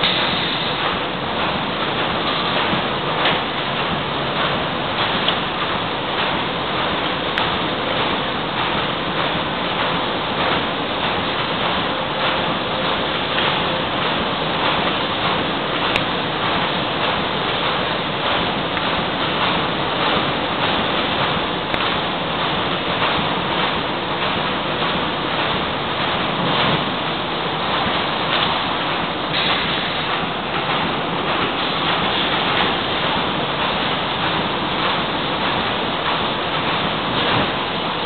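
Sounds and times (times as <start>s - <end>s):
industrial machine din: 0.0s - 38.0s.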